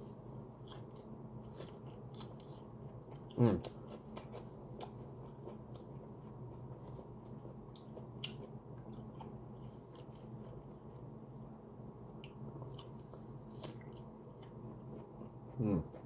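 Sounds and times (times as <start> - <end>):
person chewing fried food: 0.0 - 11.1, 12.1 - 16.0
steady low hum: 0.0 - 16.0.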